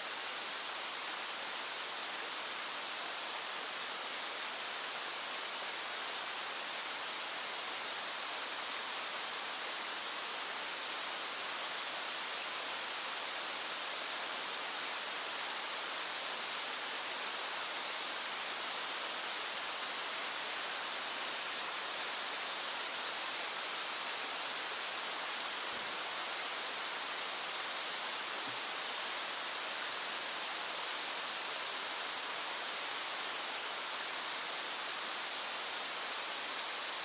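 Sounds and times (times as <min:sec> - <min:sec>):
small stream flowing: 0:00.0 - 0:37.0.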